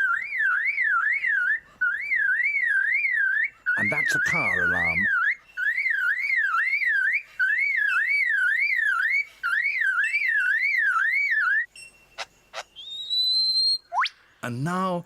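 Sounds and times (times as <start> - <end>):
bird mimicking car alarm: 0.0 - 14.2.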